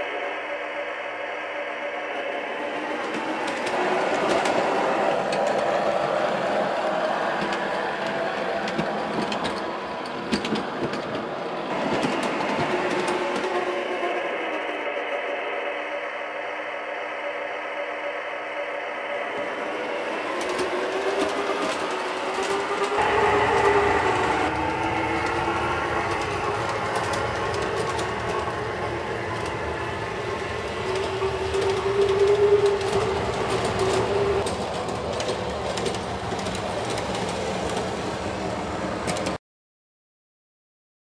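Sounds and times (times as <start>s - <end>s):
model train running on track: 0.0s - 39.4s.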